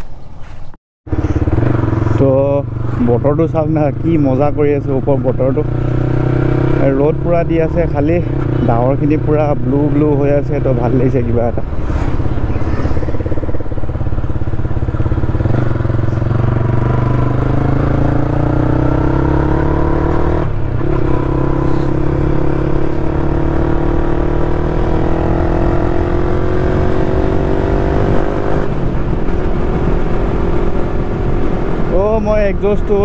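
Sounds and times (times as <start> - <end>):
motorcycle engine revving: 1.1 - 33.0.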